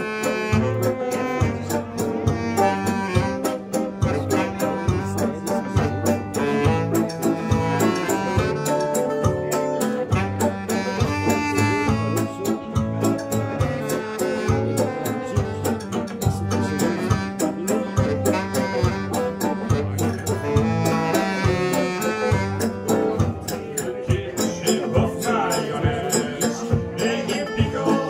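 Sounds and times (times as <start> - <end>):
drums keeping a steady beat: 0.0 - 28.0
live band playing a chanson: 0.0 - 28.0.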